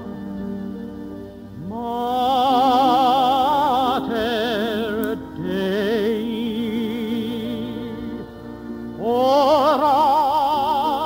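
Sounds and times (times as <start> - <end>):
orchestral accompaniment: 0.0 - 11.0
singer with wide vibrato: 0.0 - 11.0.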